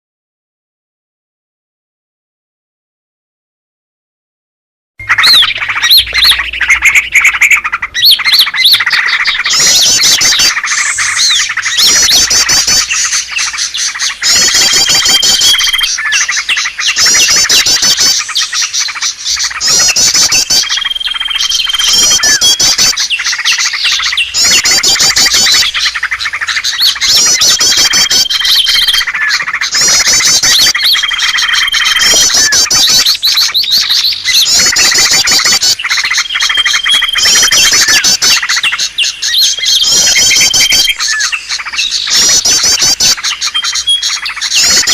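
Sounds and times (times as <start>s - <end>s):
songbirds chirping and trilling: 5.0s - 44.9s.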